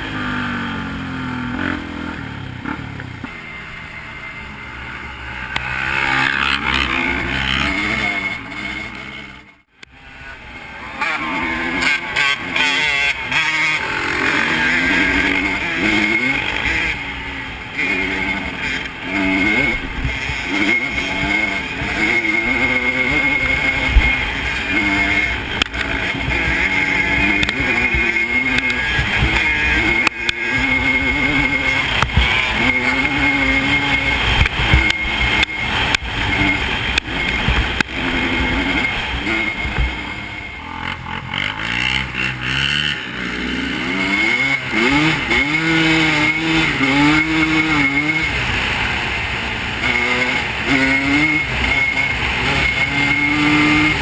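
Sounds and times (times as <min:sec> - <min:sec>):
off-road engine revving: 0:00.0 - 0:54.0.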